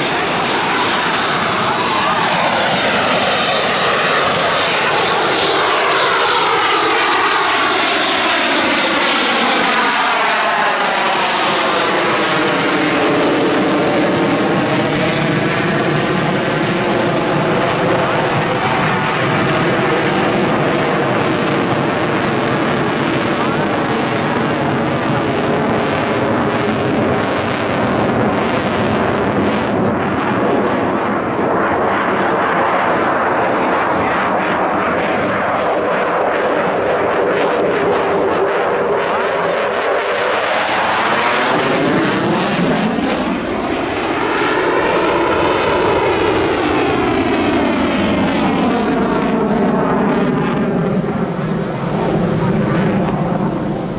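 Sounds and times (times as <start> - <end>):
jet engine roar: 0.0 - 53.9.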